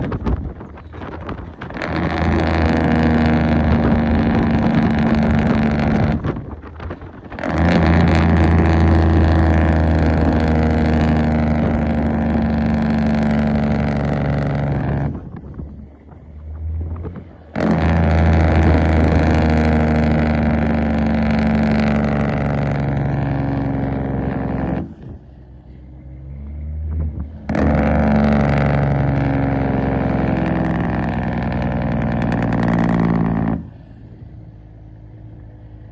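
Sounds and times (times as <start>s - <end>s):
truck engine brake rattle: 0.0s - 35.9s.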